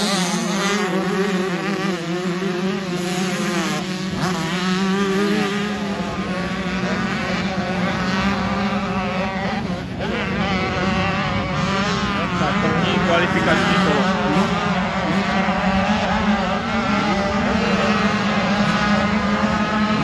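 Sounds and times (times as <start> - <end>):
motorcycle engines revving: 0.0 - 20.0
steady low drone: 0.0 - 20.0.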